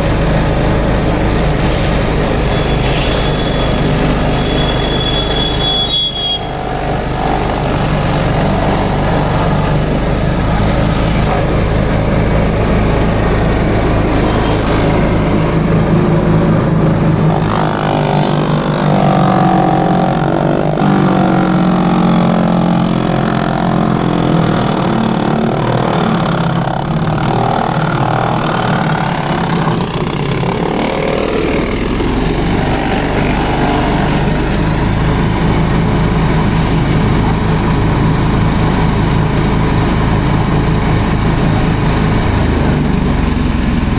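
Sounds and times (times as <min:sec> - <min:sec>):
wood chipper engine running: 0:00.0 - 0:43.9.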